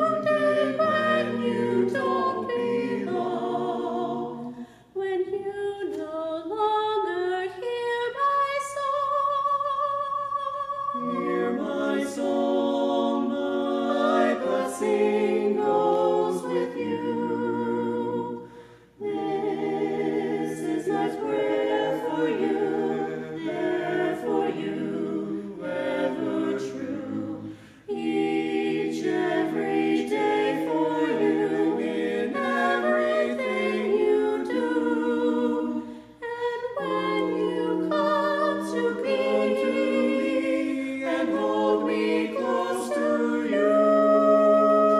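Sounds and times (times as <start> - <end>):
vocal quartet singing a cappella: 0.0 - 44.9.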